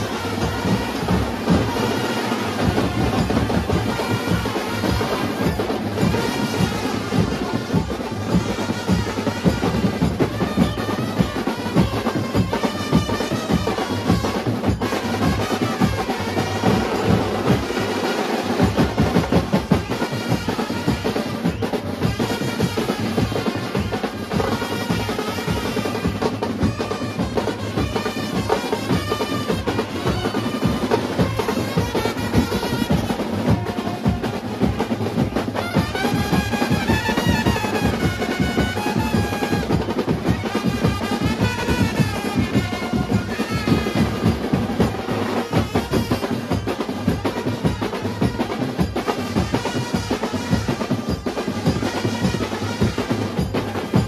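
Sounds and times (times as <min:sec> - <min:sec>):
bass drums beating: 0:00.0 - 0:54.0
brass band playing: 0:00.0 - 0:54.0
trumpets: 0:00.0 - 0:54.0.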